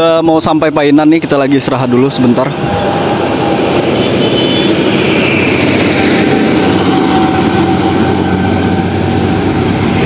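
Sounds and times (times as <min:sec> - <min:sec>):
truck engine rumble: 0:01.6 - 0:10.0.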